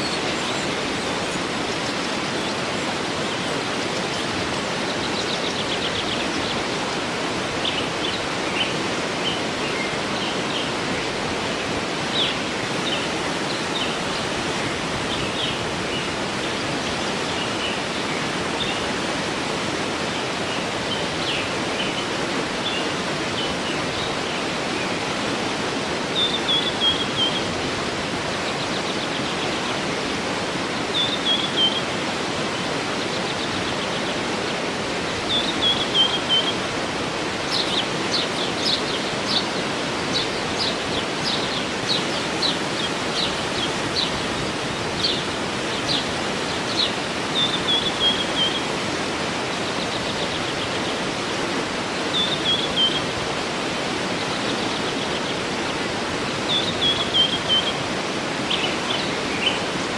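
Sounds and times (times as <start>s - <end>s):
songbirds chirping: 0.0s - 59.9s
waterfall running: 0.0s - 59.9s.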